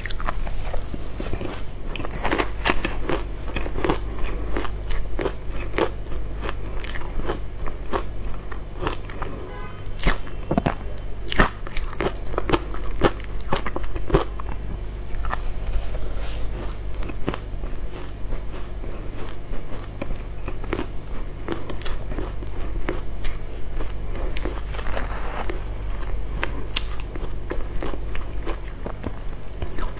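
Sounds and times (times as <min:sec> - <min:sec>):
crunching and chewing ice: 0:00.0 - 0:29.9.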